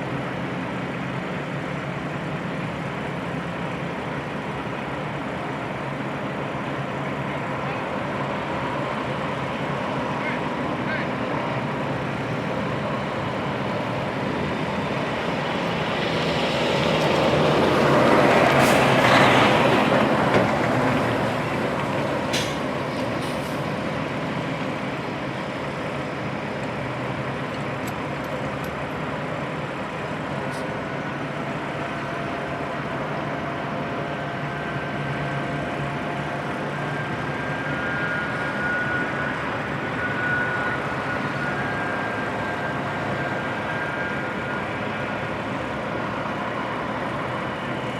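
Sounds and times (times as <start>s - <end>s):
heavy truck engines running: 0.0s - 47.9s.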